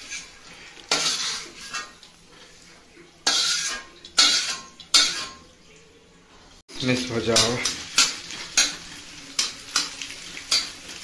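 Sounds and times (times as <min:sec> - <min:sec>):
metal spatula scraping a pan: 0:00.0 - 0:05.5, 0:06.8 - 0:11.0.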